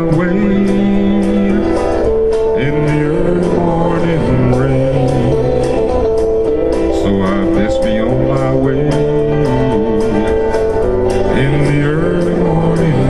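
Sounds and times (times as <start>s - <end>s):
country ballad music with guitar: 0.0s - 13.0s.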